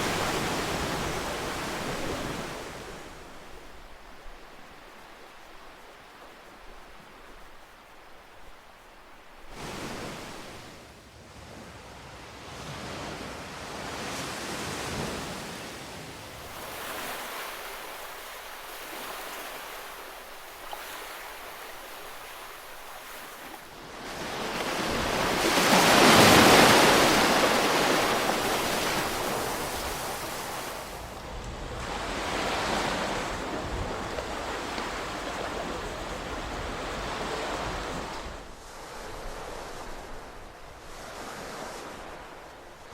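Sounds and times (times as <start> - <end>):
ocean waves breaking: 0.0 - 10.8, 16.3 - 42.9.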